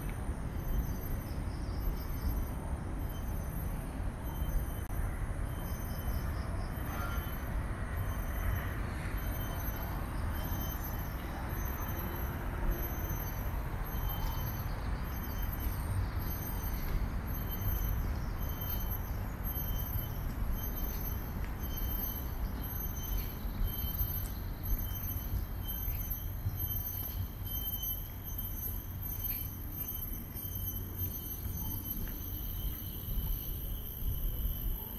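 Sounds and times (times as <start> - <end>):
distant road traffic rumble: 0.0 - 34.9
faint high chirp: 0.0 - 34.9.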